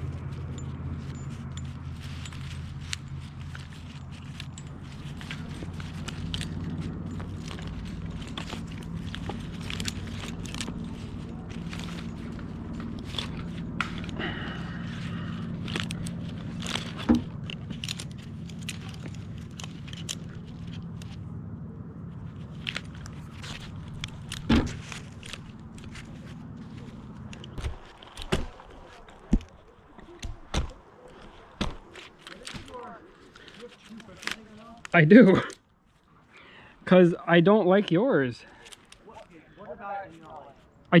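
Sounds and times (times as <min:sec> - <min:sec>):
steady low hum: 0:00.0 - 0:39.6
rope and metal hardware scraping: 0:00.0 - 0:41.0.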